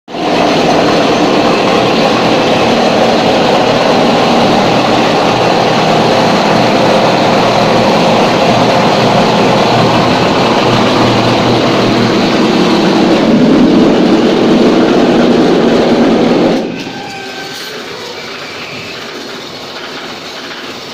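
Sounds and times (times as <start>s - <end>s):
rendering machine running: 0.1s - 20.9s
deeper machine note: 0.2s - 17.2s.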